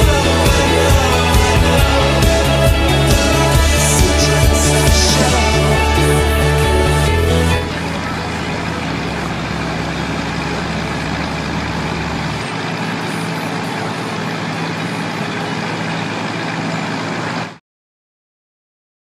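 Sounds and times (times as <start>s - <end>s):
engine hum: 0.0s - 17.6s
passing vehicles: 0.0s - 17.6s.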